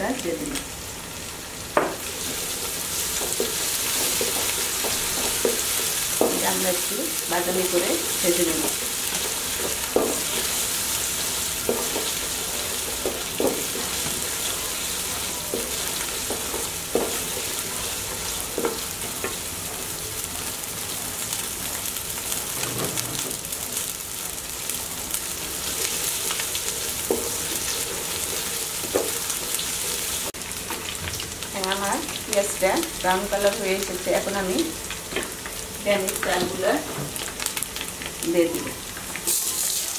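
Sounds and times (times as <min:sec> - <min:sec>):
onions sizzling in hot oil: 0:00.0 - 0:39.9.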